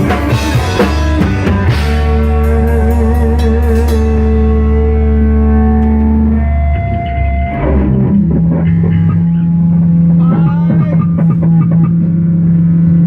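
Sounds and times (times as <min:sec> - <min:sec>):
held low bass note: 0:00.0 - 0:13.0
plucked guitar notes: 0:00.0 - 0:13.0.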